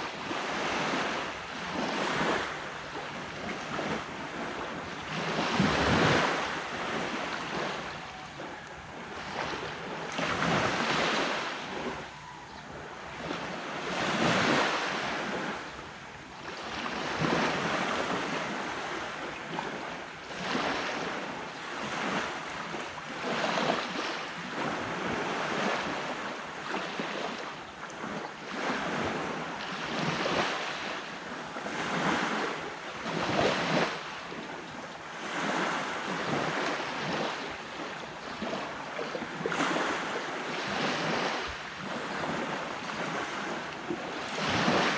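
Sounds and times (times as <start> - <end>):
ocean waves breaking on a beach: 0.0 - 44.9.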